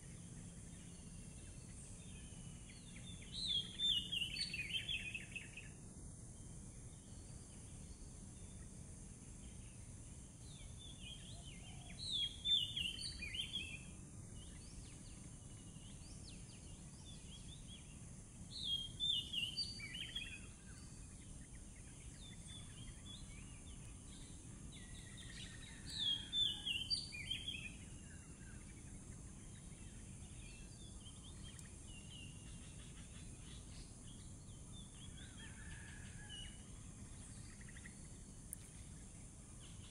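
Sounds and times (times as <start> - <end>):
faint high hiss: 0.0 - 39.9.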